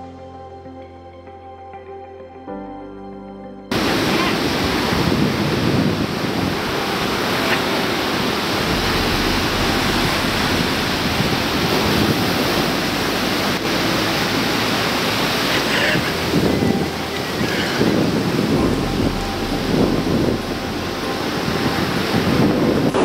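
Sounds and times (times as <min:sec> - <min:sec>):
music: 0:00.0 - 0:23.0
waves breaking on beach: 0:03.7 - 0:23.0
wind buffeting microphone: 0:03.7 - 0:23.0.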